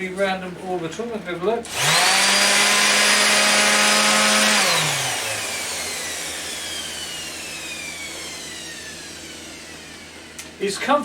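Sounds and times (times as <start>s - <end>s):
orbit sander whining: 1.7s - 10.6s.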